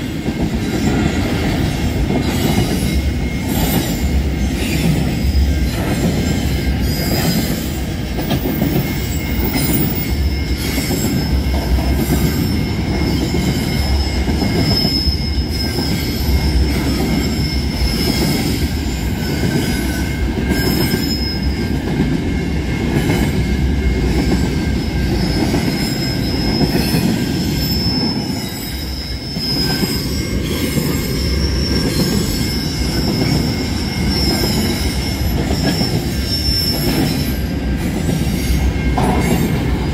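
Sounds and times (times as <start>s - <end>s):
train wheels rumbling on rail: 0.0s - 39.9s
high wheel squeal: 0.6s - 21.9s, 23.8s - 39.9s.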